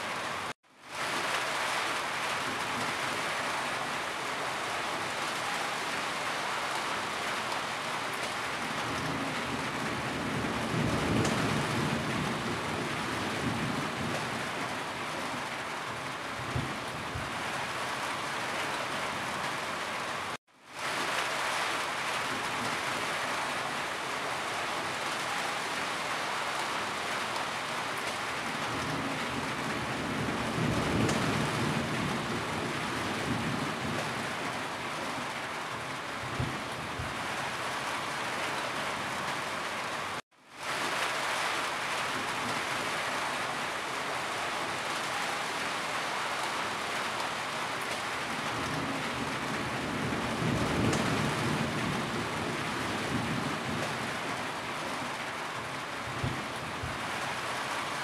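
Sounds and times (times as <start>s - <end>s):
heavy rain pouring off roof: 0.0s - 58.0s.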